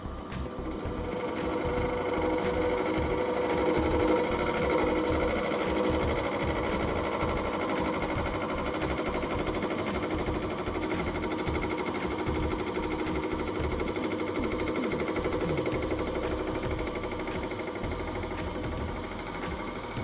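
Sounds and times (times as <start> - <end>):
lathe turning tool chatter: 0.0 - 20.0.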